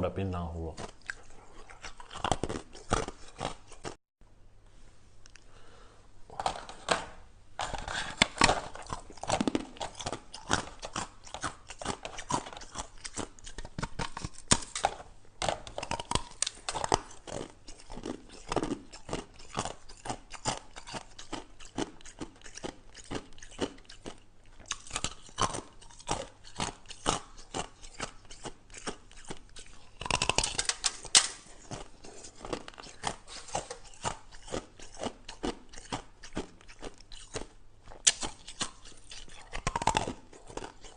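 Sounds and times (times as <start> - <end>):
ice crunching between teeth: 0.6 - 4.0, 7.6 - 40.9.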